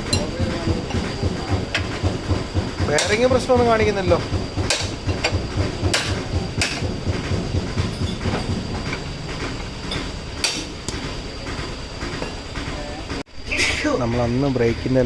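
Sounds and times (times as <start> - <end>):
machine thudding rhythmically: 0.0 - 13.3.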